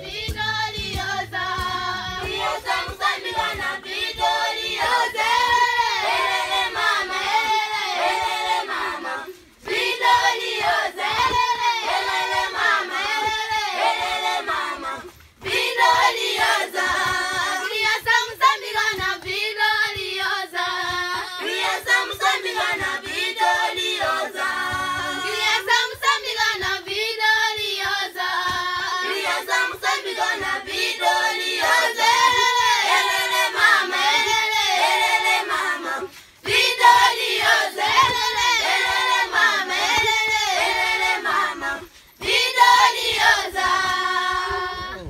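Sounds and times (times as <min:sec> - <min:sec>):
girls singing without instruments: 0:00.0 - 0:45.0.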